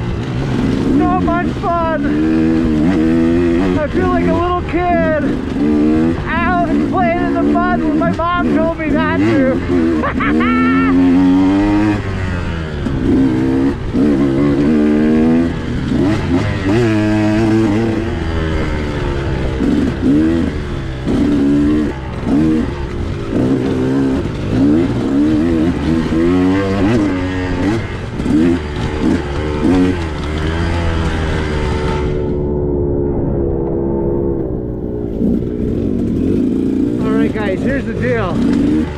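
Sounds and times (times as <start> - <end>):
two-stroke dirt bike engine revving: 0.0 - 32.7, 34.3 - 38.9.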